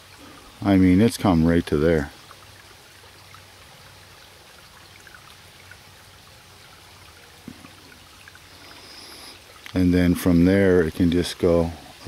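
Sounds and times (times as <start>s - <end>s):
water trickling over rocks: 0.0s - 12.0s.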